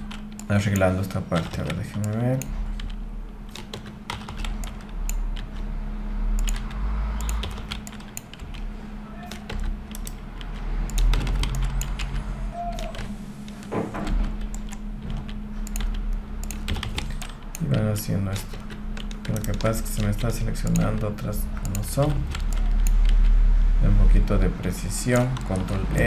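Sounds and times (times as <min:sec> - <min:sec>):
keyboard and mouse clicking: 0:00.0 - 0:05.7, 0:06.3 - 0:23.4, 0:25.0 - 0:26.0
steady low hum: 0:00.0 - 0:26.0.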